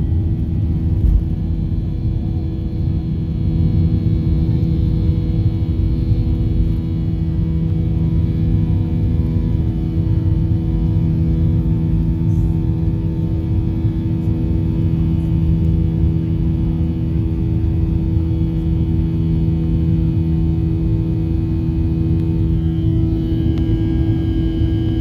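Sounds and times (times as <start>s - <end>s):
airliner engines droning in cabin: 0.0s - 25.0s.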